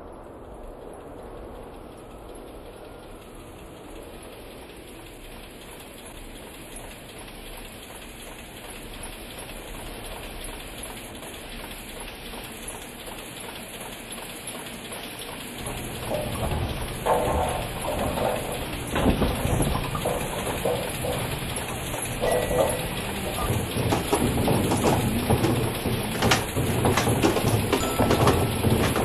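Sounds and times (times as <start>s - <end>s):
steady rain-like hiss: 0.0s - 28.8s.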